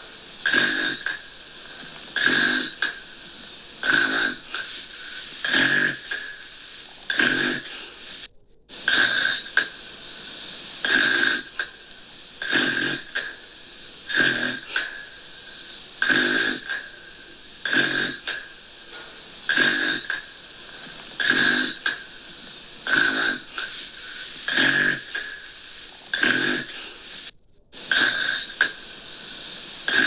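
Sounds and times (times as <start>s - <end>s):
person snoring: 0.0s - 30.0s.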